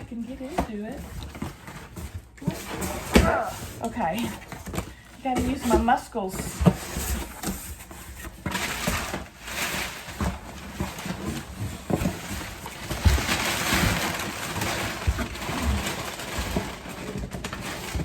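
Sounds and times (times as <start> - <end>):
cardboard rustling and tearing: 0.0 - 18.0.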